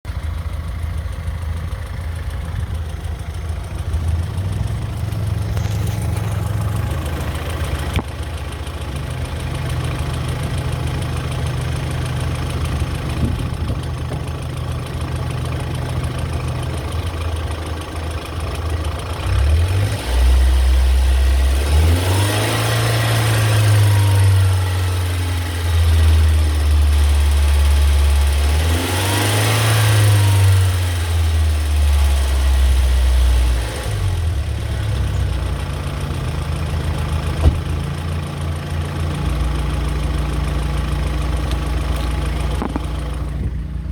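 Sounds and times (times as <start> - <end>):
car engine idling with ticking: 0.0 - 43.9.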